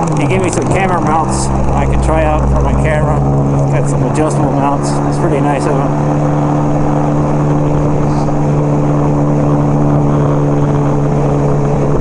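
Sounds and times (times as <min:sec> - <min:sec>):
motorcycle engine cruising: 0:00.0 - 0:12.0
wind rumble on microphone: 0:00.0 - 0:12.0.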